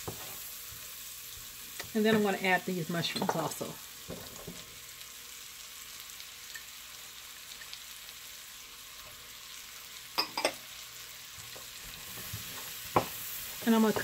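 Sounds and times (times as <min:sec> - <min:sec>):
onions and mushrooms sizzling in pan: 0:00.0 - 0:14.0.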